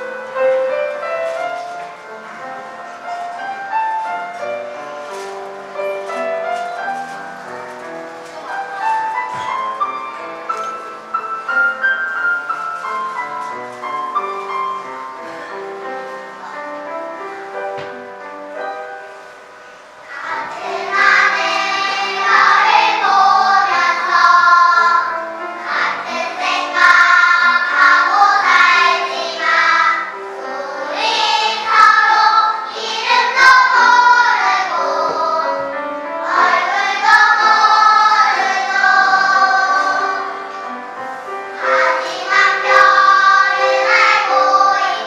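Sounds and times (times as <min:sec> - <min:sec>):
children's choir singing: 0:00.0 - 0:45.0
piano accompaniment: 0:00.0 - 0:45.0.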